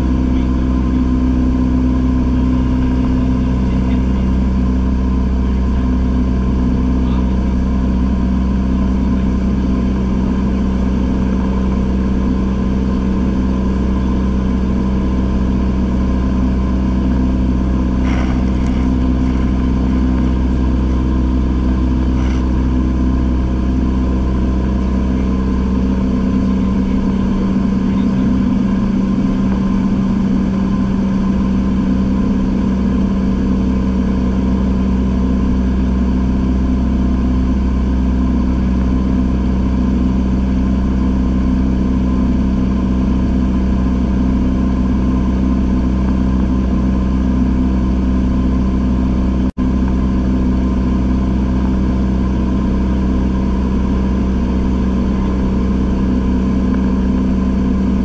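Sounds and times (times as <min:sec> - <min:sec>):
light plane engine drone: 0:00.0 - 0:58.0.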